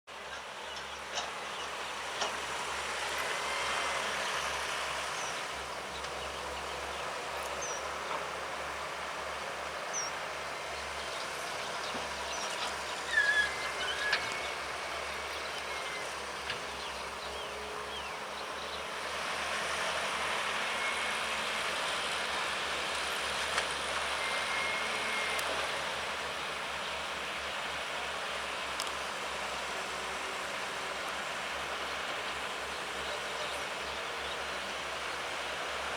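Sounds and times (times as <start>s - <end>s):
excavator engine and hydraulics: 0.1s - 35.9s.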